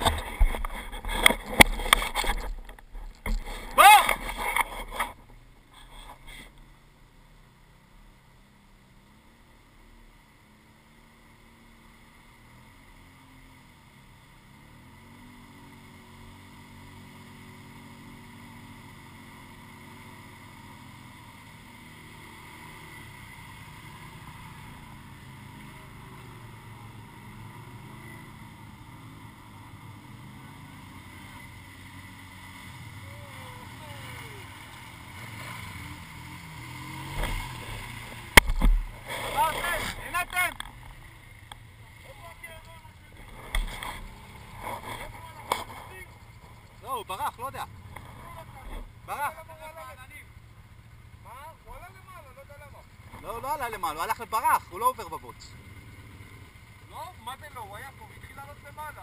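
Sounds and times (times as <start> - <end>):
quad engines revving: 0.0 - 6.6, 10.6 - 59.0.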